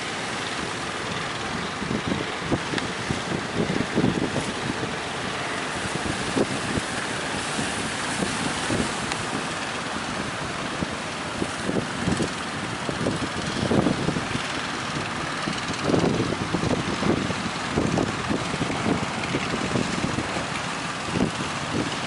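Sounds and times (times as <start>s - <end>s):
rush of wind and sea: 0.0s - 22.0s
wind buffeting microphone: 0.0s - 22.0s.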